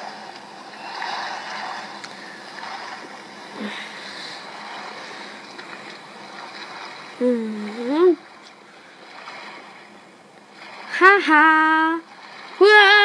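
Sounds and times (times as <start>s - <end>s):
flowing water: 0.0s - 13.0s.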